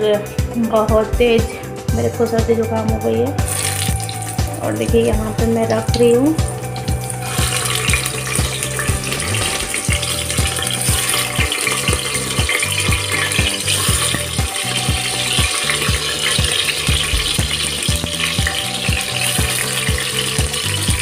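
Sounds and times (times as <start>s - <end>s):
background music with steady beat: 0.0s - 21.0s
hot oil sizzling: 3.4s - 21.0s.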